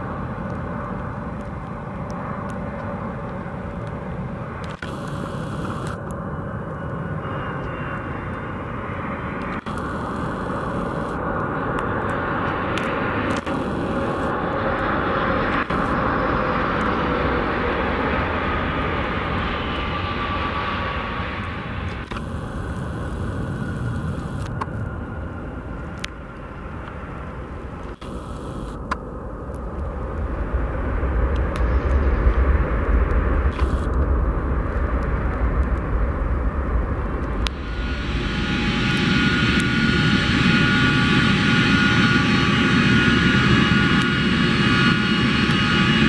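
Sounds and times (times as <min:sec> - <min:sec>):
jet engines whining: 0:03.1 - 0:46.0
deep rumble of jet rolling: 0:06.2 - 0:46.0.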